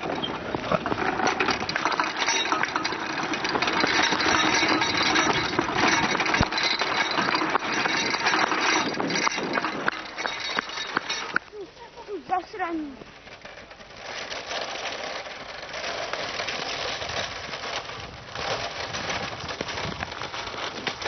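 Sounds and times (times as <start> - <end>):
kart wheels clattering: 0.0 - 21.0.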